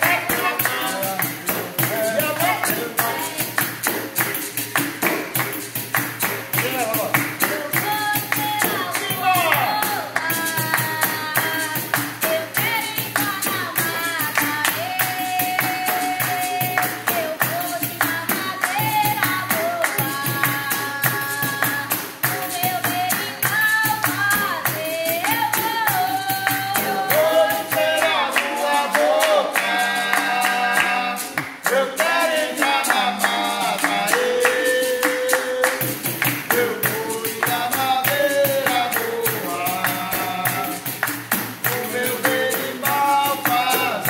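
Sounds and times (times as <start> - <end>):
hand-clapping: 0.0 - 44.0
pandeiro rhythm: 0.0 - 44.0
people singing: 0.0 - 44.0.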